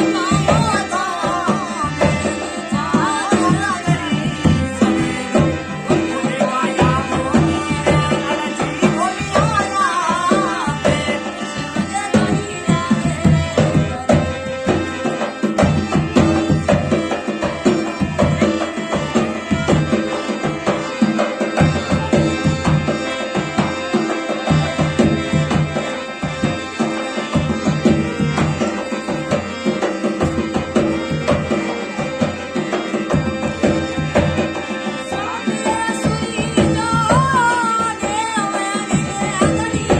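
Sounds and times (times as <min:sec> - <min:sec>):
fast hand-drum rhythm: 0:00.0 - 0:39.9
held melody notes: 0:00.0 - 0:39.9.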